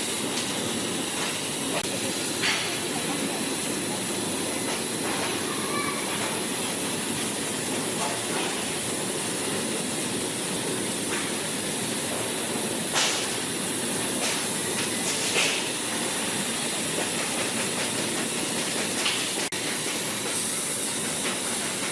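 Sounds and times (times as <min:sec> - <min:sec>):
plasma cutter hissing: 0:00.0 - 0:21.9.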